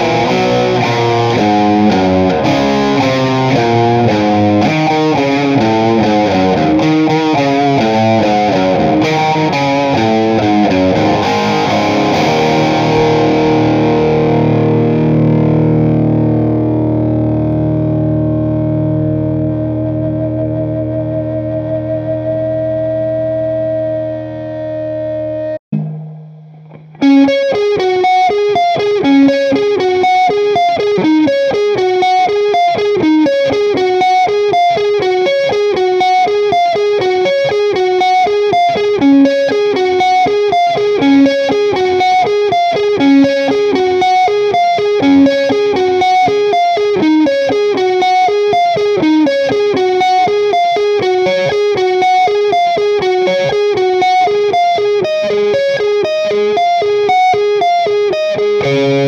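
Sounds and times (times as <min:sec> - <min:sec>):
electric guitar melody: 0:00.0 - 0:59.0.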